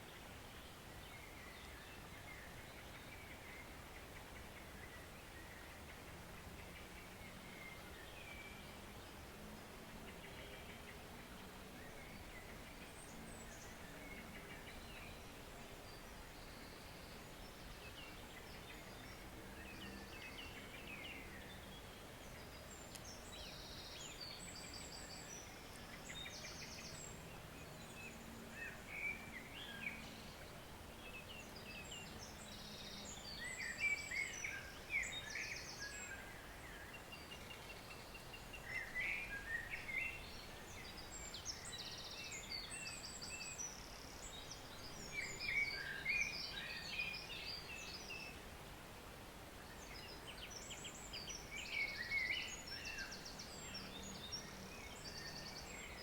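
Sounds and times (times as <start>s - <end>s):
bird high song phrase: 0.0s - 48.4s, 49.6s - 56.0s
birds singing: 0.0s - 48.4s, 49.6s - 56.0s
faint stream rushing: 0.0s - 56.0s.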